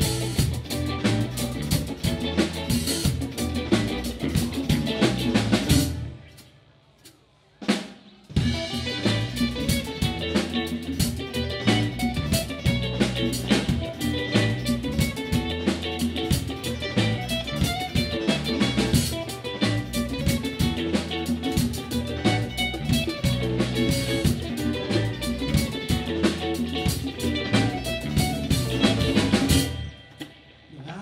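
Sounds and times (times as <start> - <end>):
electric mandolin strumming: 0.0 - 6.3, 8.4 - 30.7
bass guitar: 0.0 - 6.5, 8.3 - 31.0
drum kit: 0.0 - 31.0.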